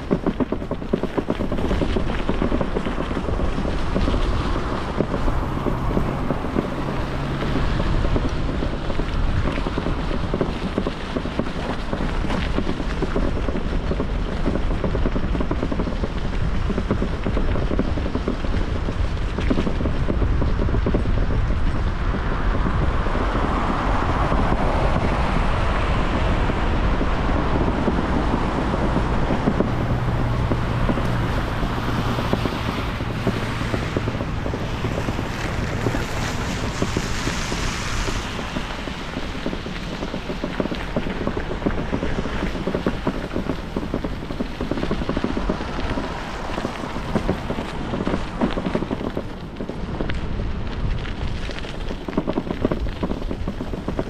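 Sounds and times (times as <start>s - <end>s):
rolling road noise: 0.0s - 54.0s
wind buffeting microphone: 0.0s - 54.0s.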